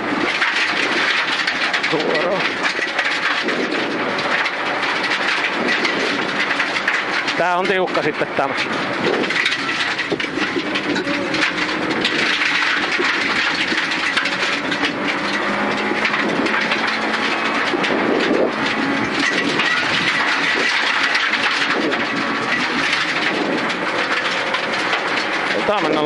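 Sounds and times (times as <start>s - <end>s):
gravel pelting underbody: 0.0s - 26.0s
rally car engine under load: 0.0s - 26.0s.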